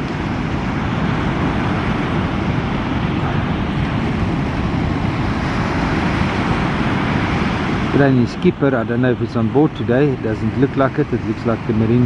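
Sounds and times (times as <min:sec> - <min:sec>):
breaking surf rumble: 0:00.0 - 0:12.0.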